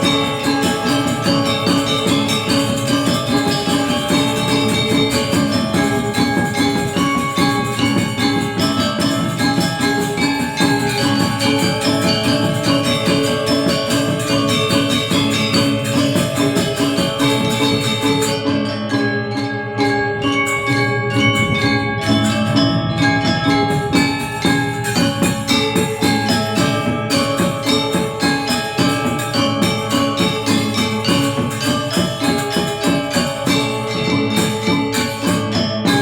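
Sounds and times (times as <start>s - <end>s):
gamelan metallophones and gongs: 0.0s - 36.0s.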